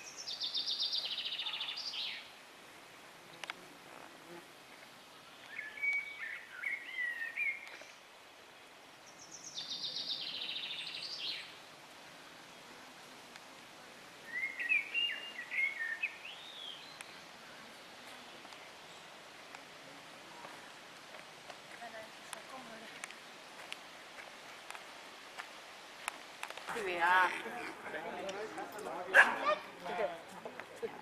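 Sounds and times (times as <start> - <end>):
faint outdoor hiss: 0.0 - 31.0.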